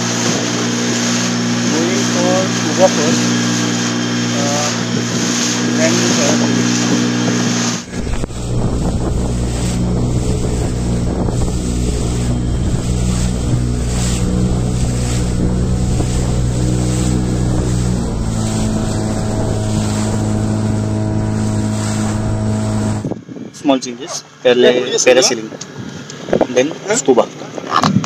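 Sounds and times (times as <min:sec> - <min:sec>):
wind noise on microphone: 0:00.0 - 0:23.8, 0:25.2 - 0:26.6, 0:27.7 - 0:28.0
water rushing past hull: 0:00.0 - 0:26.4
boat motor running: 0:00.0 - 0:28.0.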